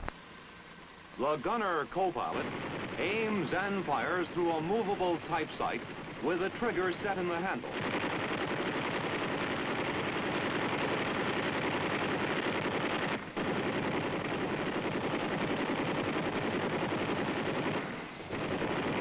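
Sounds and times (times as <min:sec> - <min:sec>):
machine guns firing bursts: 0:01.5 - 0:19.0.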